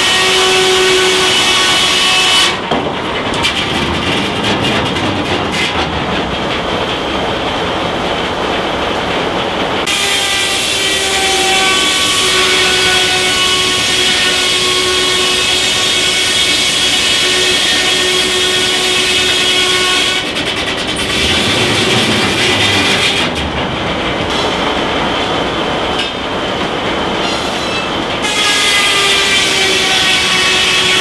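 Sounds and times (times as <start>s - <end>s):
log carriage rumbling on track: 0.1s - 31.0s.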